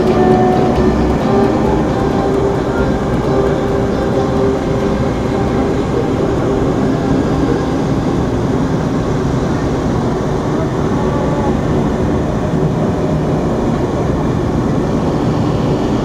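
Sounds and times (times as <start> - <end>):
wind blowing over microphone: 0.0 - 16.0
wind tunnel airflow rushing: 0.0 - 16.0.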